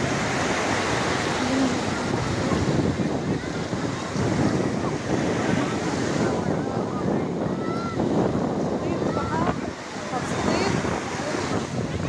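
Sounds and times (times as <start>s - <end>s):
sea waves washing on shore: 0.0s - 12.0s
wind buffeting microphone: 0.0s - 12.0s.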